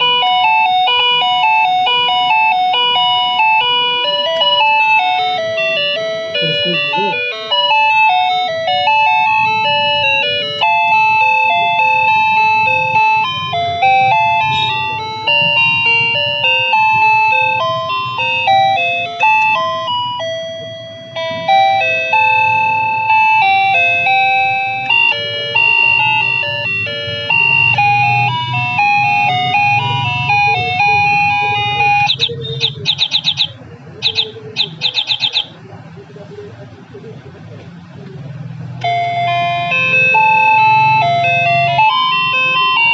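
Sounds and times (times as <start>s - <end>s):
doorbell electronic chime melody: 0.0s - 35.5s, 38.8s - 42.9s
fast ringing trill: 0.5s - 35.5s.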